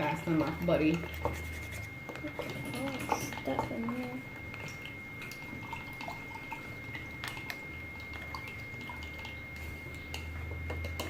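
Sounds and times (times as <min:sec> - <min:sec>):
liquid dripping: 0:00.0 - 0:11.0.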